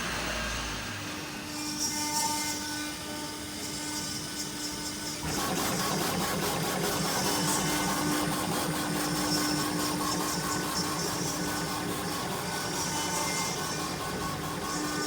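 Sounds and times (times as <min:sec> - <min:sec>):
machine humming and whining: 0:00.0 - 0:15.0.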